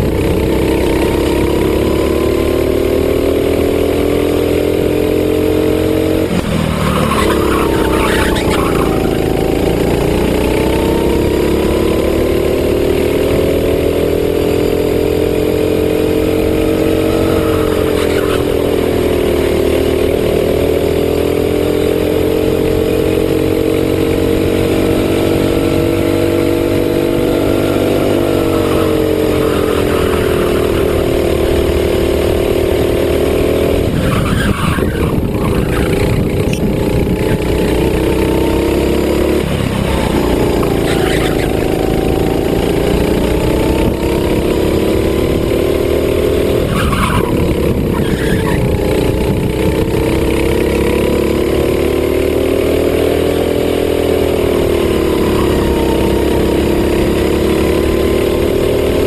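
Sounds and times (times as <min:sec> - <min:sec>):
racing kart engine running hard: 0:00.0 - 0:59.0.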